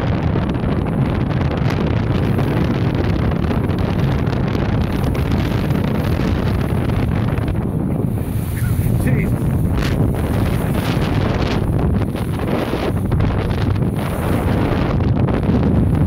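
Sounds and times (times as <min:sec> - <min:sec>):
boat engine noise: 0:00.0 - 0:16.0
water rushing past: 0:00.0 - 0:16.0
wind buffeting microphone: 0:00.0 - 0:16.0.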